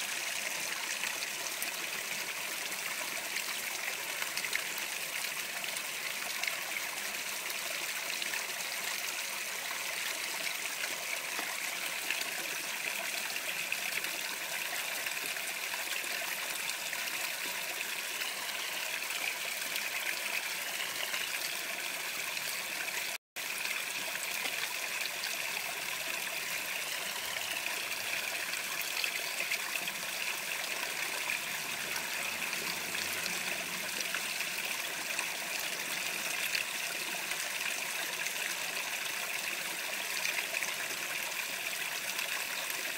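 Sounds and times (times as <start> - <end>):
water trickling into a pond: 0.0 - 42.9.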